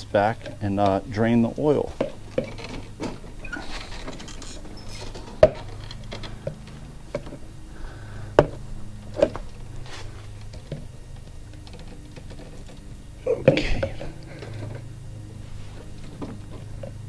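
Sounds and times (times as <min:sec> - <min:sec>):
lawn mower knocks and clunks: 0:00.0 - 0:17.0
low hum: 0:00.0 - 0:17.0.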